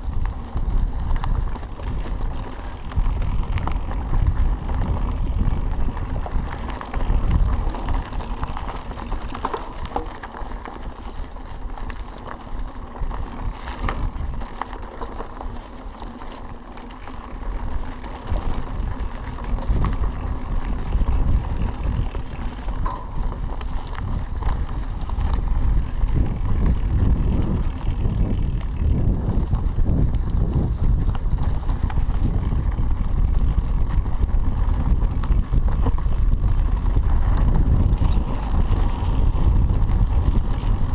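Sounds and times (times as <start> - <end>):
wind rumble on microphone: 0.0 - 16.4, 17.3 - 40.9
bike clicks and rattles: 0.0 - 40.9
bike tyres crunching on dirt: 0.0 - 40.9.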